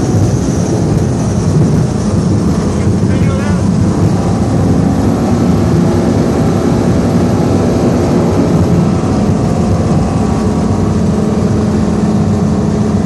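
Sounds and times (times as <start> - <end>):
race boat engine running: 0.0 - 13.0.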